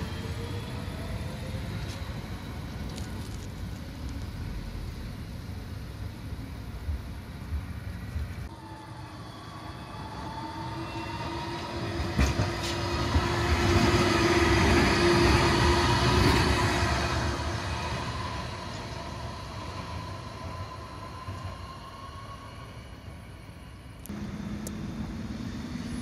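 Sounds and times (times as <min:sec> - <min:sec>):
tram passing with motor whine: 0:00.0 - 0:26.0.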